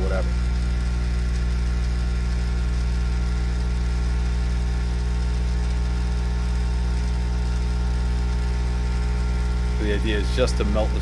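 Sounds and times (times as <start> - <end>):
hot-air blower humming: 0.0 - 11.0.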